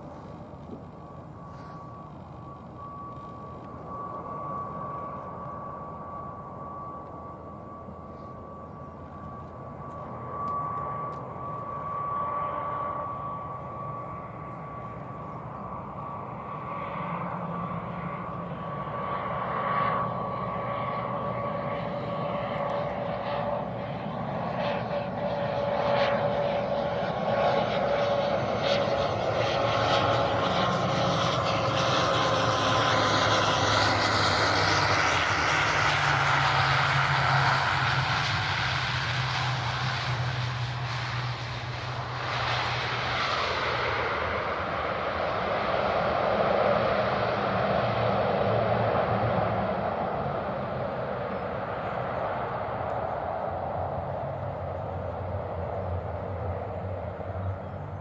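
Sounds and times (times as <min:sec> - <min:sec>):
turboprop aircraft drone with whine: 0:00.0 - 0:58.0.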